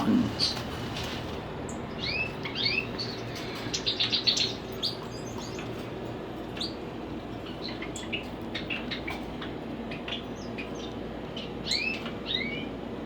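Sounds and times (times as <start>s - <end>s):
small birds chirping: 0.0s - 0.8s, 1.7s - 12.9s.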